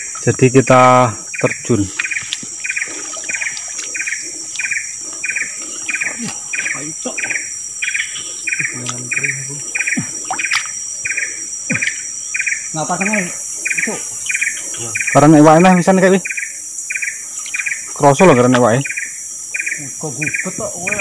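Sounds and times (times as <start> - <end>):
high-pitched insect drone: 0.0 - 21.0
insects chirping: 0.0 - 21.0.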